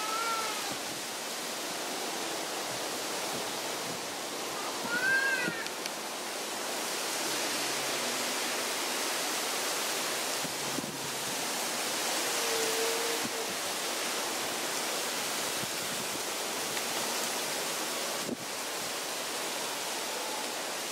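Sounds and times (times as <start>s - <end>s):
strong wind rushing through palms: 0.0s - 20.9s.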